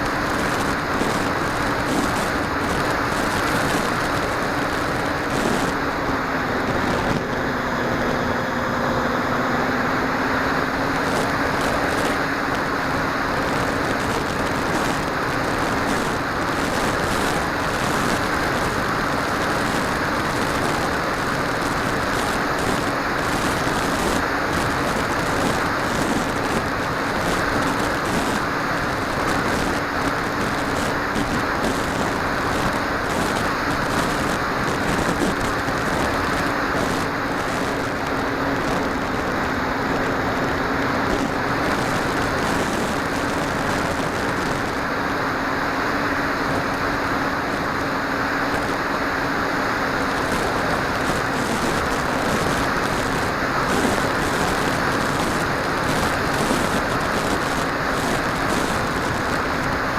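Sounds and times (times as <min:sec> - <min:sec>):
drone motor and propeller: 0:00.0 - 0:59.9
rushing wind noise: 0:00.0 - 0:59.9.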